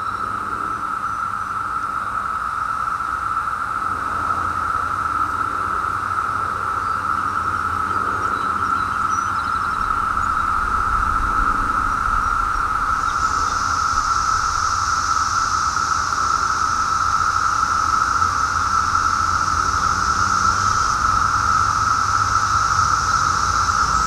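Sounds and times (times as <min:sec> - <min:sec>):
cicadas chorus drone: 0:00.0 - 0:24.0.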